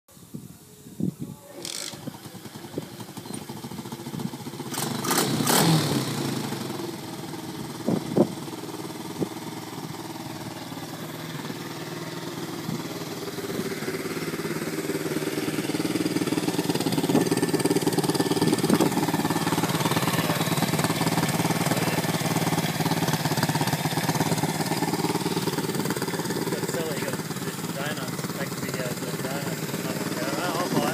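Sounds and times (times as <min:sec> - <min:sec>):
motorbike engine idling: 0:01.4 - 0:30.9.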